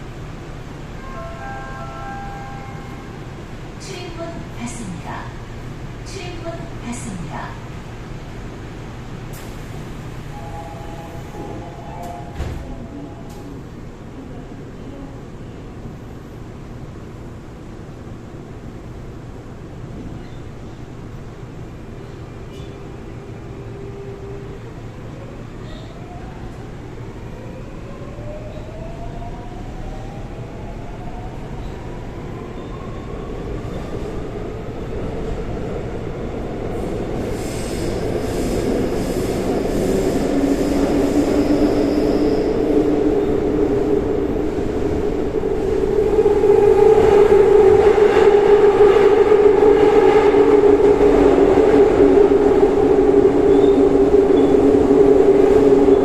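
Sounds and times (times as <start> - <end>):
subway train running noise: 0.0 - 56.0.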